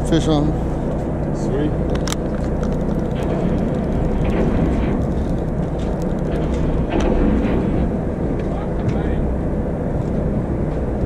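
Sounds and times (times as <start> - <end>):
boat engine droning: 0.0 - 11.0
wind: 0.0 - 11.0.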